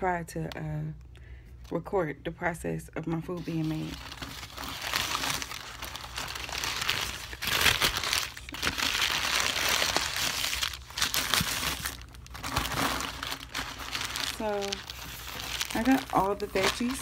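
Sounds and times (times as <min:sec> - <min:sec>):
paper wrapper crinkling: 0:03.3 - 0:17.0.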